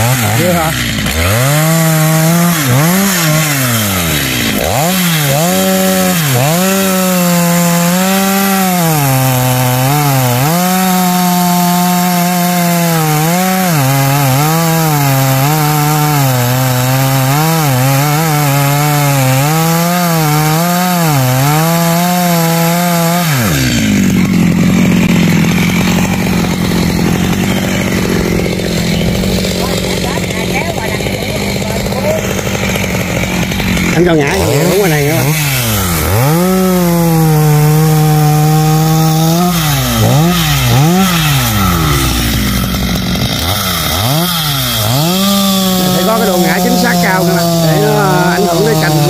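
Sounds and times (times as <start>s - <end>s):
chainsaw cutting tree trunk: 0.0s - 49.0s.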